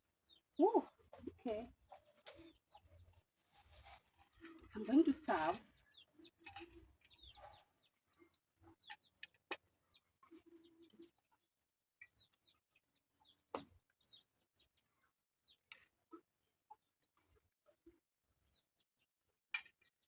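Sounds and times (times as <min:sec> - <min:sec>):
chicks peeping: 0:00.2 - 0:16.8.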